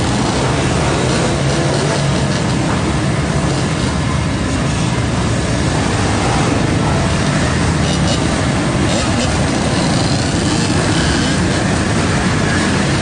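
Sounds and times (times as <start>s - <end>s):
quad bike engines: 0.0s - 13.0s
rough rushing noise: 0.0s - 13.0s.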